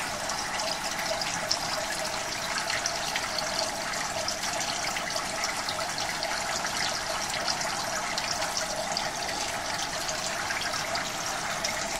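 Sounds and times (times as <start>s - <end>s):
water rushing and trickling in tank: 0.0s - 11.9s.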